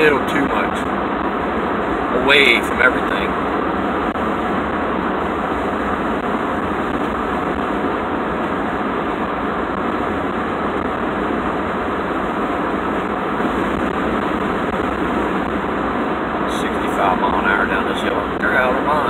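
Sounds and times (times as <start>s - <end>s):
road and engine noise in cab: 0.0s - 19.0s.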